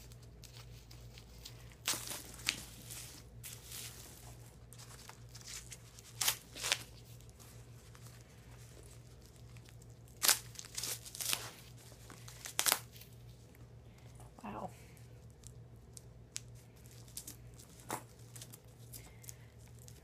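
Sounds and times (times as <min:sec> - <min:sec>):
plastic wrapping crinkling and tearing: 0:00.0 - 0:13.6, 0:15.0 - 0:20.0
low steady hum: 0:00.0 - 0:20.0.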